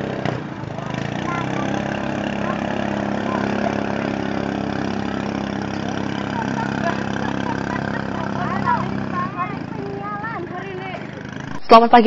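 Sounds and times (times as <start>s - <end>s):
small boat engine running: 0.0s - 11.7s.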